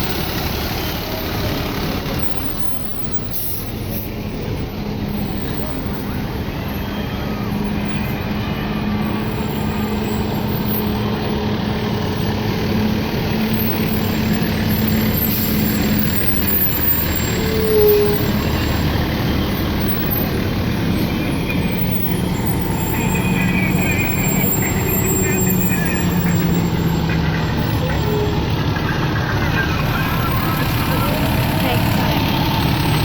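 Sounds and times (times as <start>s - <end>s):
diesel engine low rumble: 0.0s - 33.0s.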